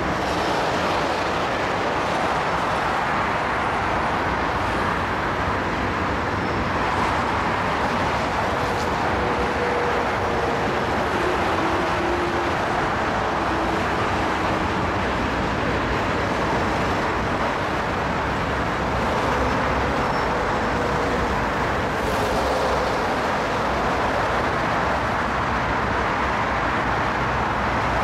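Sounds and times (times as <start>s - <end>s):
road traffic hiss and rumble: 0.0s - 28.0s
train cars rolling over bridge: 0.0s - 28.0s.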